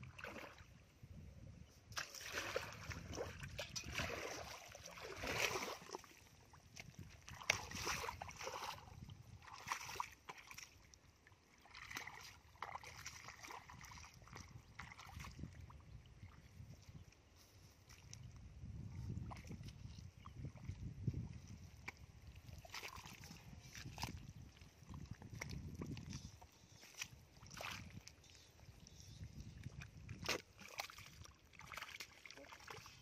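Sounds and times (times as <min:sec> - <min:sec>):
feet splashing through muddy water: 0:00.0 - 0:00.7, 0:01.9 - 0:15.8, 0:19.1 - 0:33.0.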